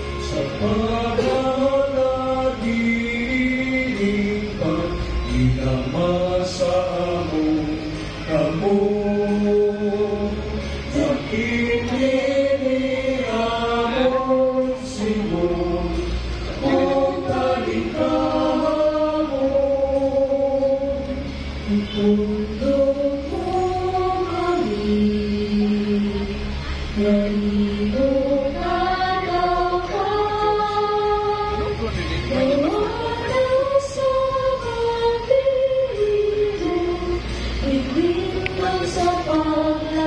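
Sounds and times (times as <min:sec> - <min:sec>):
voices singing a hymn: 0:00.0 - 0:40.0.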